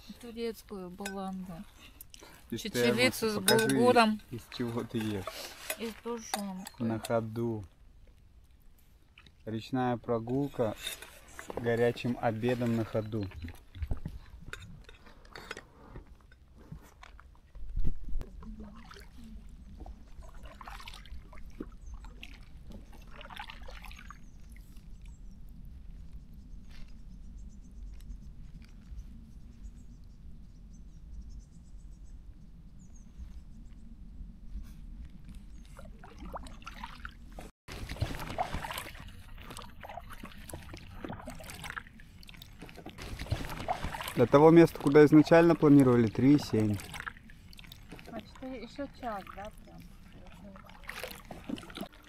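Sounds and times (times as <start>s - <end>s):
water splashing and trickling: 0.0s - 30.2s, 34.6s - 52.0s.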